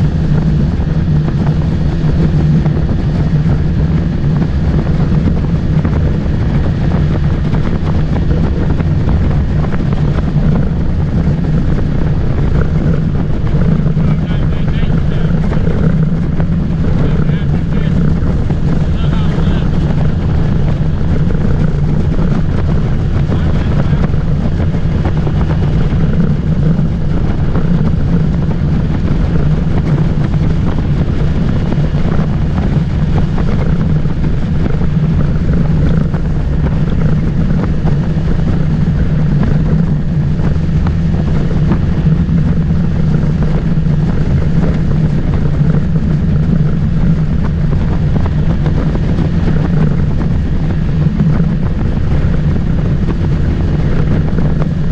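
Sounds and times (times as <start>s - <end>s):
motorboat engine running: 0.0s - 54.9s
water noise: 0.0s - 54.9s
wind buffeting microphone: 0.0s - 54.9s.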